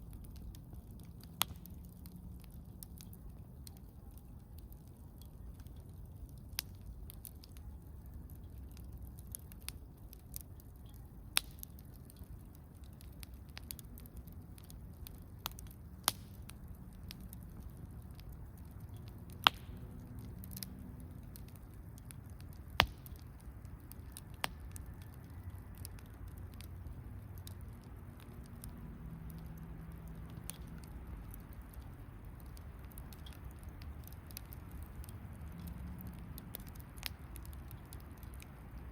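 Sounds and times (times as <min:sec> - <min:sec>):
campfire crackling and popping: 0:00.0 - 0:38.9
faint low background noise: 0:00.0 - 0:38.9.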